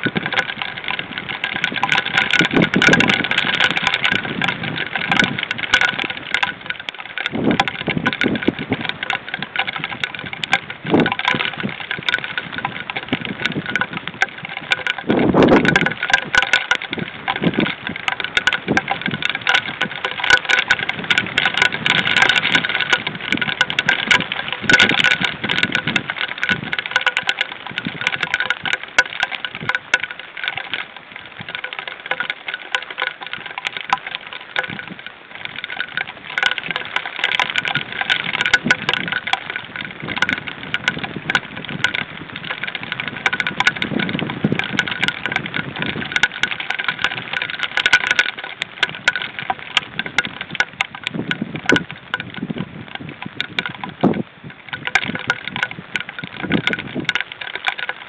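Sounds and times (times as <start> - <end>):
heavy rain patter: 0.0 - 58.0.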